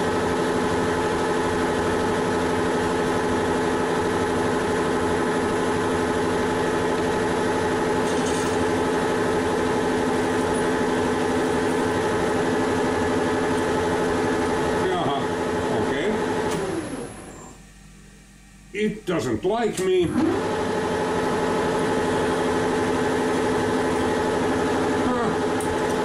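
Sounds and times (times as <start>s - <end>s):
metal lathe humming: 0.0s - 17.4s, 20.0s - 26.0s.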